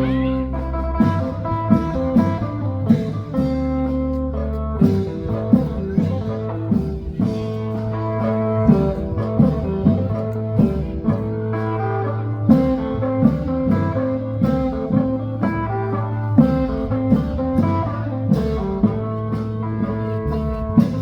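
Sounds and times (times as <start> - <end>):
plucked string melody: 0.0 - 21.0
steady drum beat: 0.0 - 21.0.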